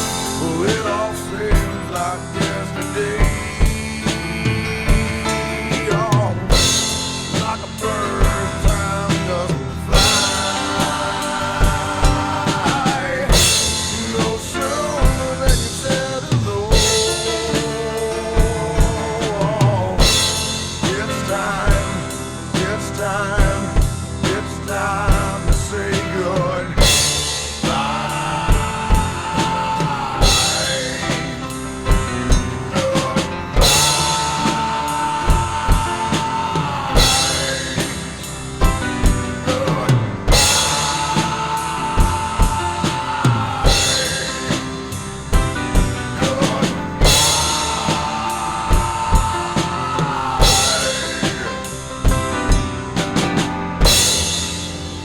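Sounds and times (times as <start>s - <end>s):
rock drum kit: 0.0s - 55.0s.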